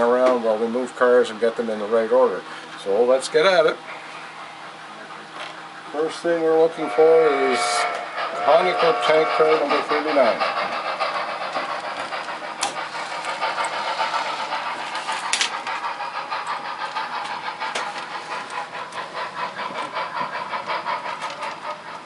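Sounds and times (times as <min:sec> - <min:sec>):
model steam locomotive chuffing: 0:00.0 - 0:22.0.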